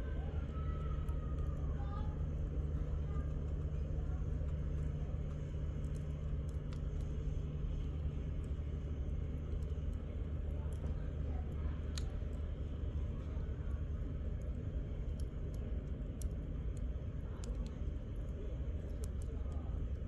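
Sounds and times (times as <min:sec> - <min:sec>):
firewood crackling: 0:00.0 - 0:20.0
steady low rumble: 0:00.0 - 0:20.0.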